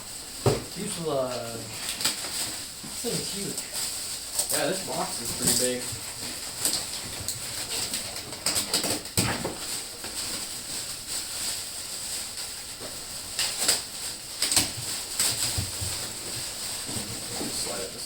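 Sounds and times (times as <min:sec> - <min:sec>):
packaging rustling and crinkling: 0:00.0 - 0:18.0.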